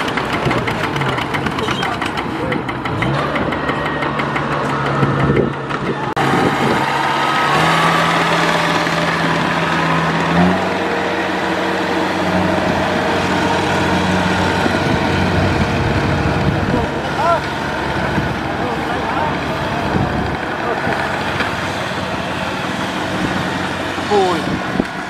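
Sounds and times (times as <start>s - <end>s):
combine harvester diesel engine: 0.0s - 25.0s
tractor engine running: 0.0s - 25.0s.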